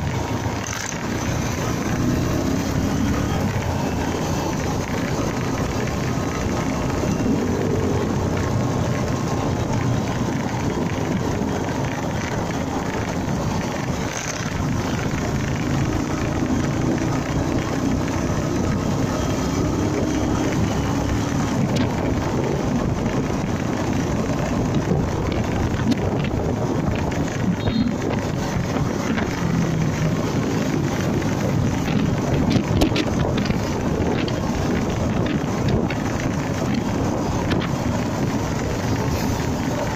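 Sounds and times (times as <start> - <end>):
motorcycle engine: 0.0 - 39.9
wind rush over microphone: 0.0 - 39.9.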